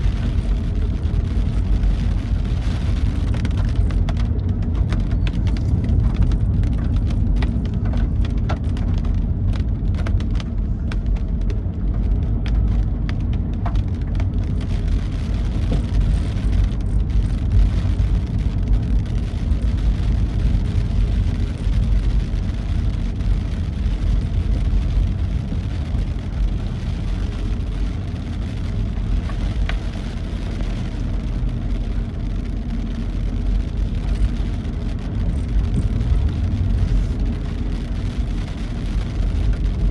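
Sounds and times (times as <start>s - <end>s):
engine and tyres rumbling: 0.0s - 39.9s
raindrops ticking: 0.0s - 39.9s.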